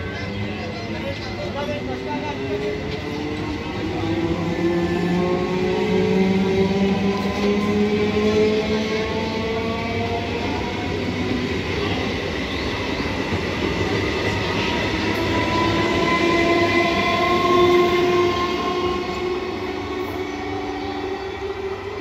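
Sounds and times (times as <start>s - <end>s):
train wheels rumbling on track: 0.0s - 22.0s
train whining tones: 0.0s - 22.0s.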